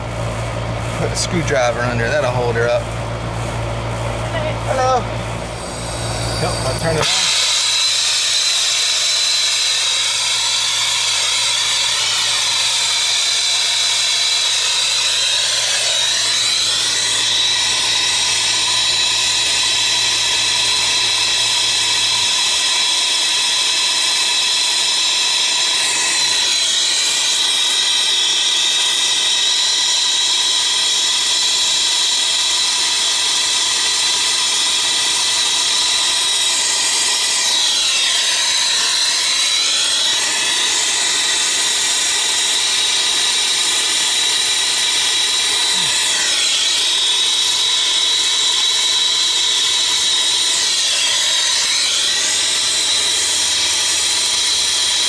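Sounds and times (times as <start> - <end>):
steady high whine: 0.0 - 55.0
torch flame hissing: 4.1 - 55.0.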